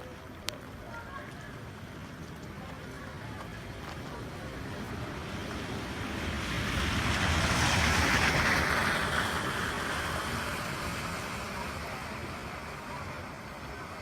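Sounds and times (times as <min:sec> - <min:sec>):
tyres hissing on wet road: 0:00.2 - 0:14.0.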